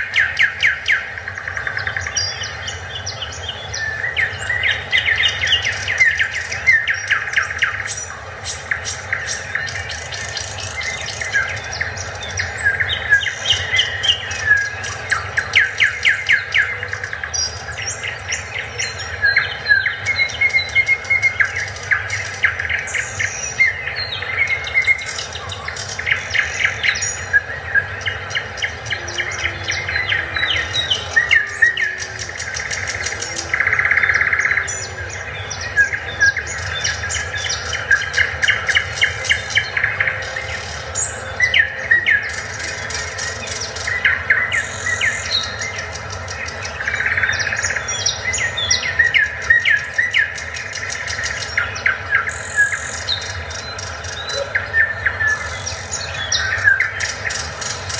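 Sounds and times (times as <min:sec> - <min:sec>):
birds chirping and singing: 0:00.0 - 0:57.9
low background hum: 0:00.0 - 0:57.9.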